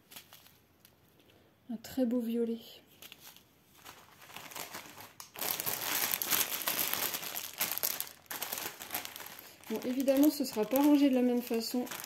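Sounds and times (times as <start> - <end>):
plastic bags crinkling: 0.0 - 1.0, 2.9 - 12.0.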